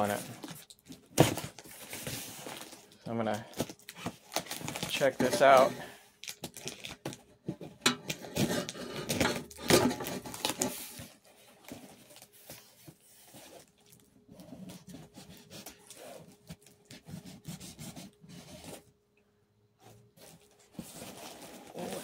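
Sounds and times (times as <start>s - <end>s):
package rustling and scraping: 0.0s - 18.9s, 19.8s - 22.0s.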